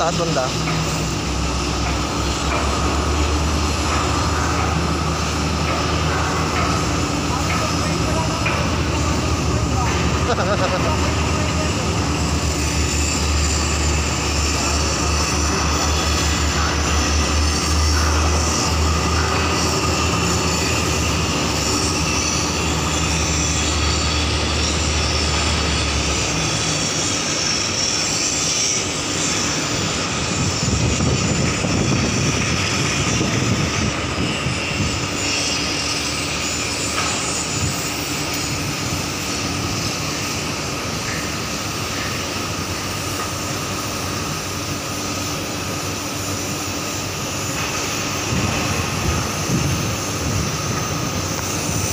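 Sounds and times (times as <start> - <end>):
marine engines droning: 0.0 - 51.9.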